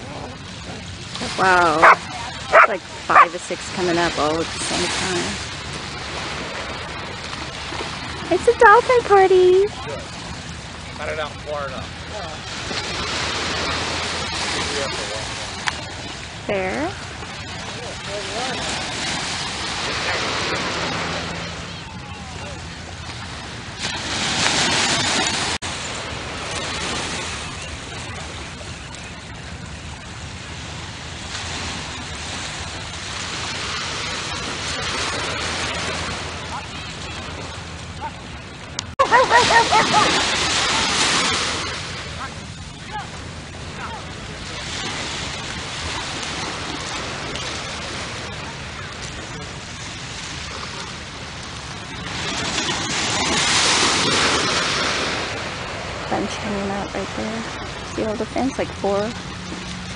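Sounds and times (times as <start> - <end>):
small waves on sandy beach: 0.0 - 59.9.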